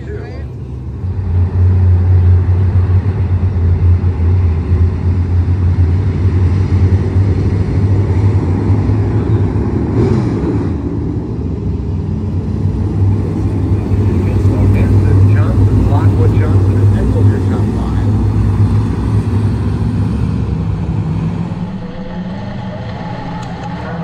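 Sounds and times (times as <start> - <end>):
race car engine drone: 0.0 - 24.0.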